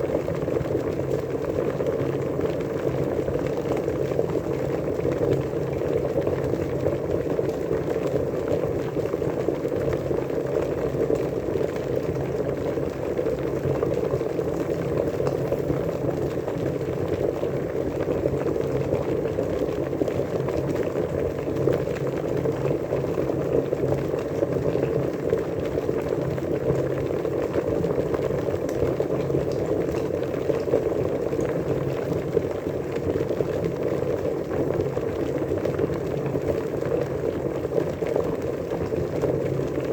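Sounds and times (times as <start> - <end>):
water boiling: 0.0 - 39.9.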